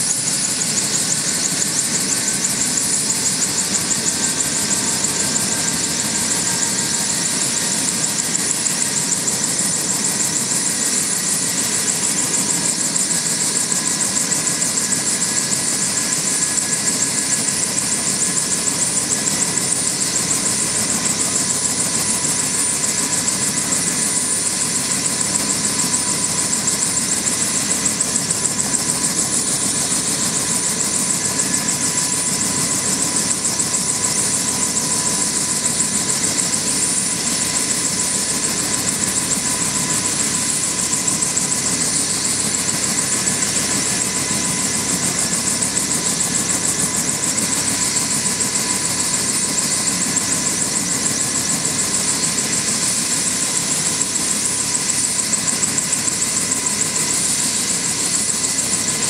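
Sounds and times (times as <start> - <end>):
helicopter engine whine: 0.0 - 59.0
helicopter rotor beating: 0.0 - 59.0.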